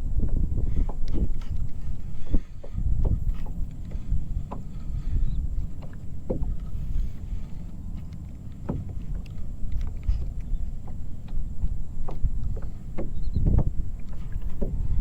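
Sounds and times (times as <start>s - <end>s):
knocks and splashes against hull: 0.0s - 15.0s
low water rumble: 0.0s - 15.0s.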